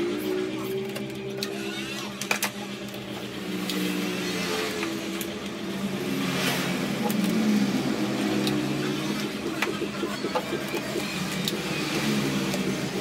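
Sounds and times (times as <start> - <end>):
engine-like drone: 0.0 - 13.0.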